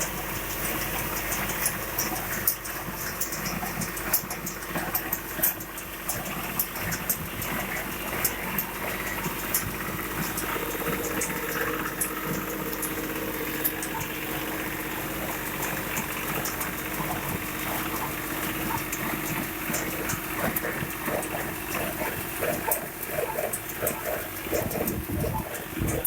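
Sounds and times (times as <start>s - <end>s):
sharp clicks and rattles: 0.0s - 26.0s
tractor engine humming: 0.0s - 26.0s.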